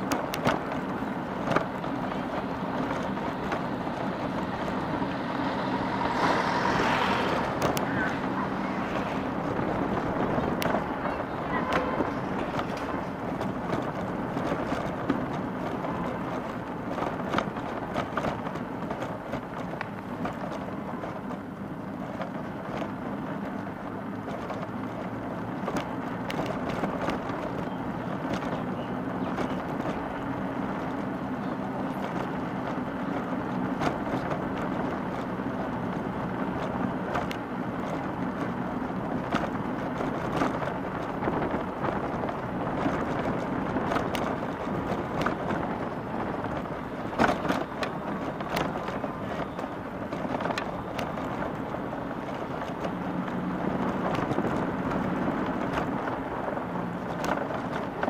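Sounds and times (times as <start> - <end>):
bike clicks and rattles: 0.0 - 58.0
road and traffic rumble: 0.0 - 58.0.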